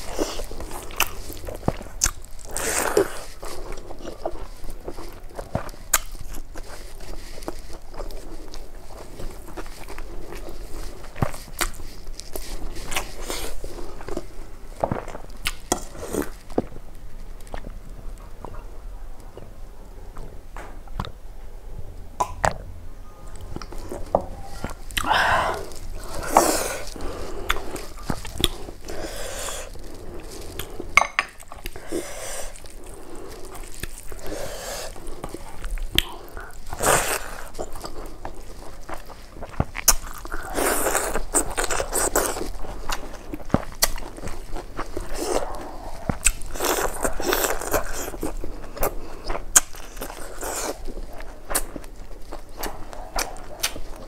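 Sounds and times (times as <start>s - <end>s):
chewing and smacking: 0.0s - 18.7s, 23.3s - 54.0s.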